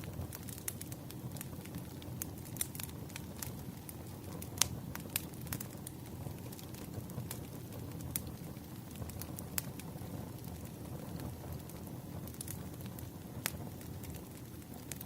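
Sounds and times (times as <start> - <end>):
bonfire flame rumble: 0.0 - 15.0
wood crackling and popping: 0.0 - 15.0.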